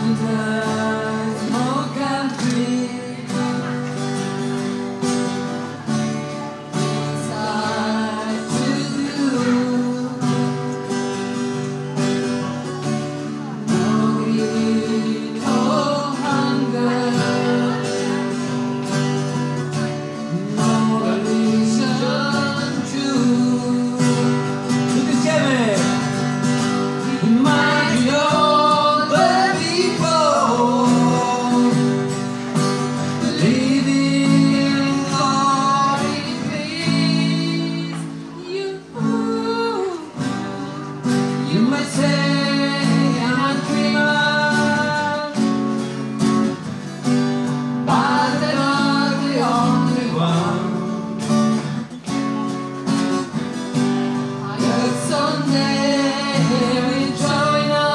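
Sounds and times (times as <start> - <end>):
people singing: 0.0 - 51.8, 53.0 - 57.9
acoustic guitar strumming: 0.0 - 57.9.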